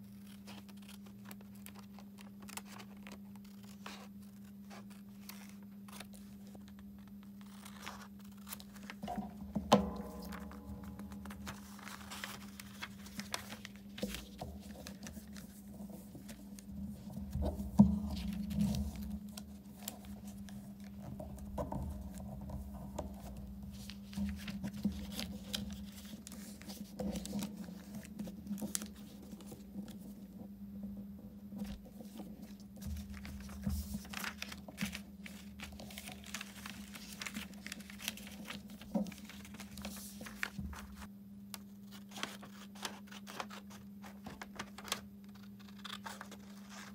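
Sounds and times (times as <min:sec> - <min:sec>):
paper rustling and creasing: 0:00.0 - 0:30.5, 0:31.2 - 0:46.9.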